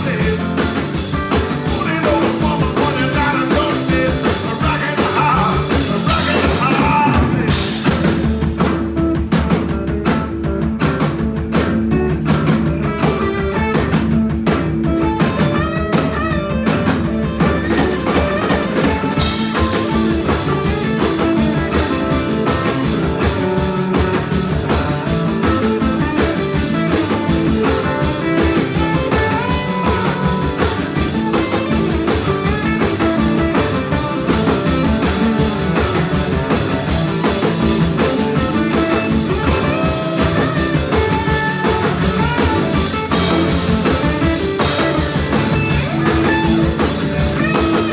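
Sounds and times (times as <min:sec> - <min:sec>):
blues band playing: 0:00.0 - 0:47.9
drum kit cymbals and drums: 0:00.0 - 0:47.9
guitar: 0:00.0 - 0:47.9.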